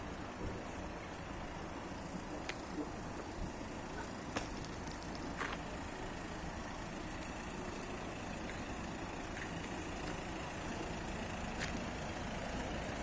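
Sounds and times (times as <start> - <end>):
street noise: 0.0 - 13.0
vehicle engines idling: 0.0 - 13.0.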